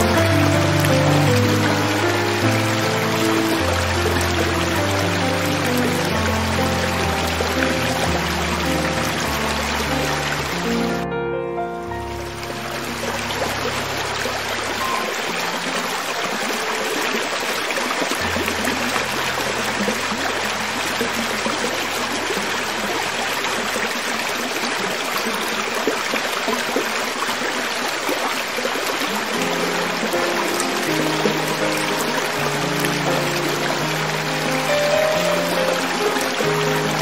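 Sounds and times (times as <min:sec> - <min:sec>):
creek flowing over stones: 0:00.0 - 0:37.0.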